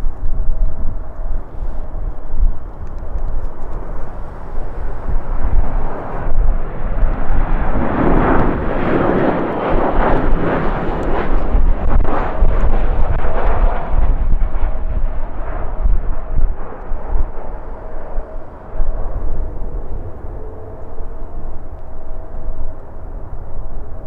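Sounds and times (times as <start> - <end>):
jet airliner passing: 0.0 - 24.0
wind buffeting microphone: 0.0 - 24.0.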